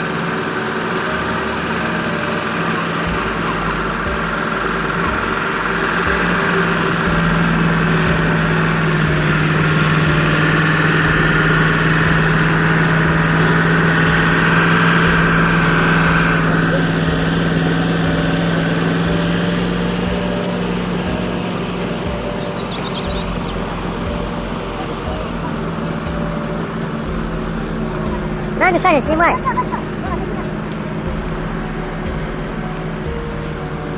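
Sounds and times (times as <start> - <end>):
road noise: 0.0 - 33.9
vehicle engine drone: 0.0 - 33.9.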